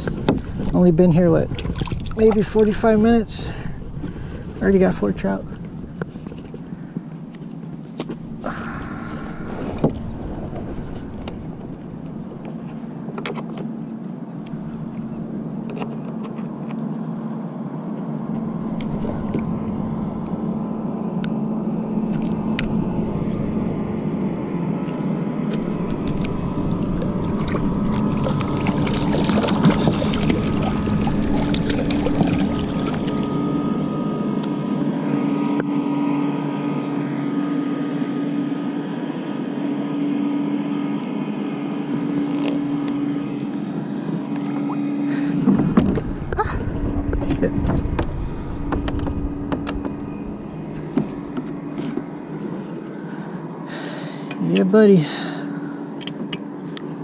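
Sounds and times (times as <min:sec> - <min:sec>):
motorboat engine humming: 0:00.0 - 0:57.0.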